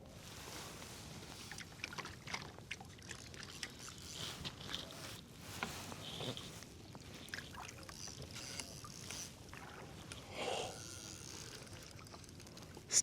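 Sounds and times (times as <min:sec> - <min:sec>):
water lapping and splashing: 0:00.0 - 0:13.0.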